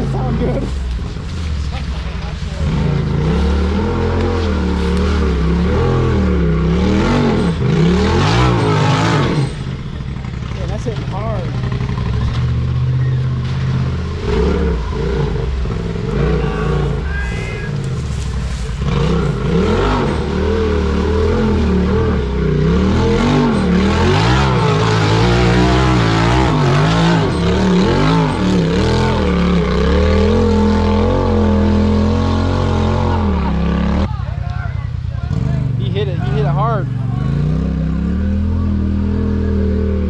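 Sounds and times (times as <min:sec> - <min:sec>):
off-road vehicle engine revving: 0:00.0 - 0:34.2, 0:35.2 - 0:40.0.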